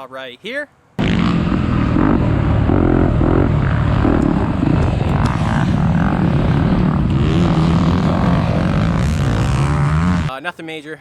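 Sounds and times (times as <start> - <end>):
dirt bike engine running: 1.0 - 10.3.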